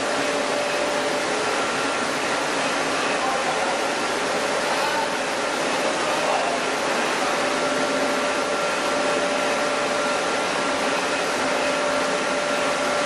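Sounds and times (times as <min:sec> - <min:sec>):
milling machinery running: 0:00.0 - 0:13.0
steady machine whine: 0:00.0 - 0:13.0.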